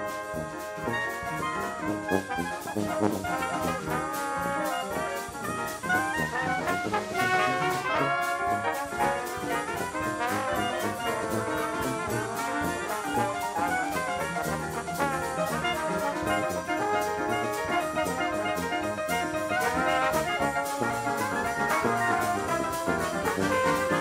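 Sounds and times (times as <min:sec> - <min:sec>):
jazzy brass music with beat: 0:00.0 - 0:24.0.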